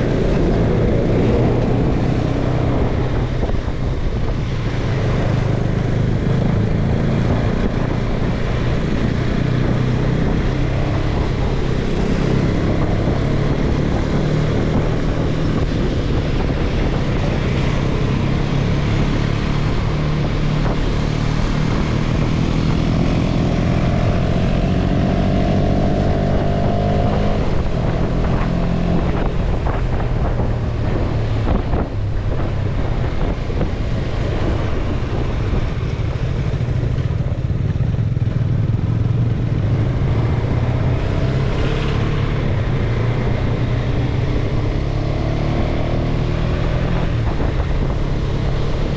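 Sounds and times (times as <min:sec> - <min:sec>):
motorcycle engine running: 0:00.0 - 0:46.1
wind buffeting microphone: 0:00.0 - 0:48.9.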